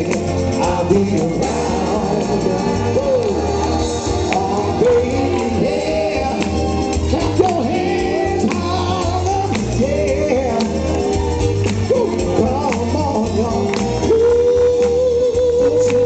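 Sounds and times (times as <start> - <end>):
band with bass and drums: 0.0 - 16.0
vocal group singing: 0.0 - 16.0.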